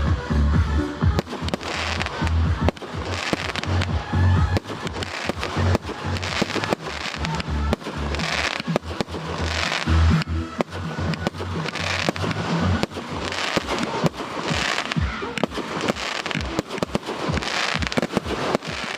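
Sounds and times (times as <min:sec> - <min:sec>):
firework bangs and crackling: 0:00.0 - 0:18.9
heavy low thuds: 0:00.0 - 0:18.9
music playing: 0:00.0 - 0:18.9.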